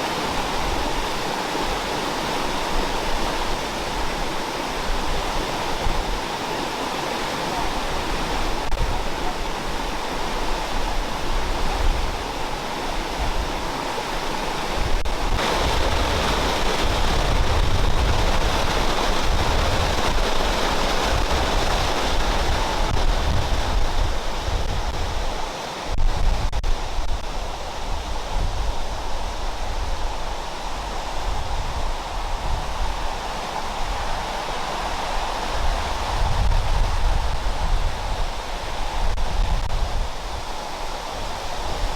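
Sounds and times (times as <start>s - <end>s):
waterfall roaring: 0.0s - 41.9s
wind on microphone: 0.0s - 41.9s.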